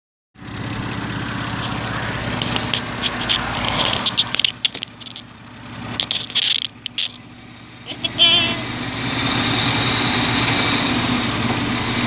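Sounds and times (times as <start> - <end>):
car engine revving: 0.4 - 12.0
turbo flutter chattering: 0.4 - 12.0.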